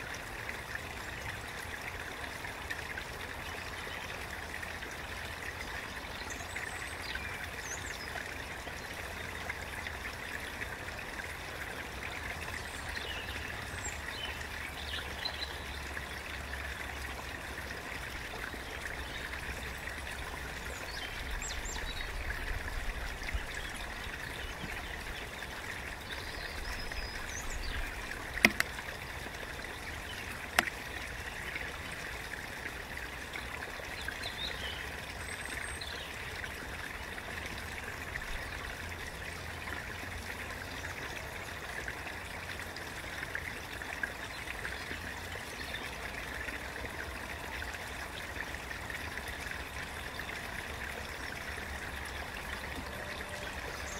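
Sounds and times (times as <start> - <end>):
stream running over stones: 0.0 - 53.9.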